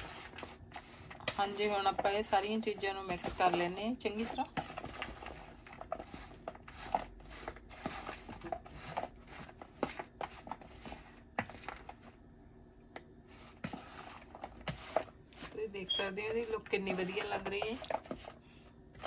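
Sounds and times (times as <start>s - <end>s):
spoon scraping plastic bowl: 0.0s - 12.1s, 13.3s - 18.4s.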